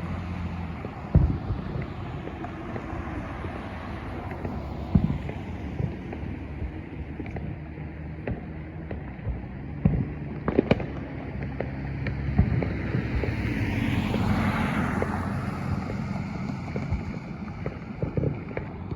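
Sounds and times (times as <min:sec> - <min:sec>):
distant fireworks bangs: 0:00.0 - 0:18.9.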